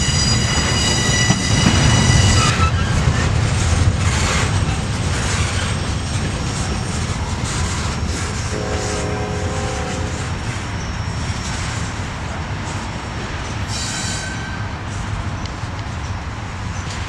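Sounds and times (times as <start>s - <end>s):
freight train rumbling past: 0.0s - 17.0s
train wheel squeals: 0.0s - 17.0s.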